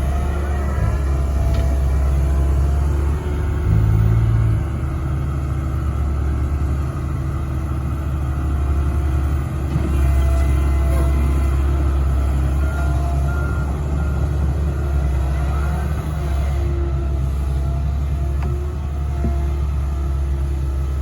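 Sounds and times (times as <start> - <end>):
excavator diesel engine rumbling: 0.0 - 21.0.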